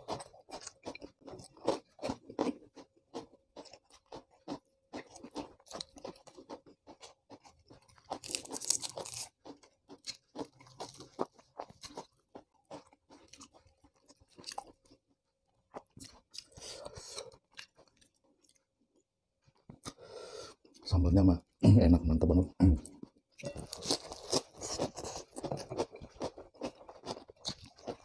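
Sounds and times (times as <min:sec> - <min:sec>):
crunching raw vegetables: 0:00.0 - 0:18.6, 0:23.4 - 0:28.0.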